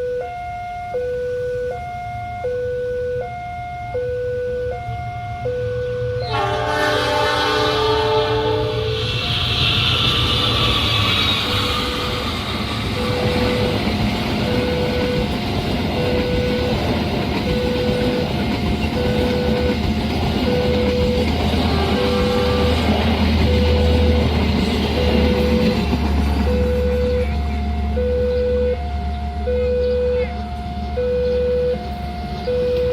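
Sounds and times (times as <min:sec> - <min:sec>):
passing train rumble: 0:03.4 - 0:32.9.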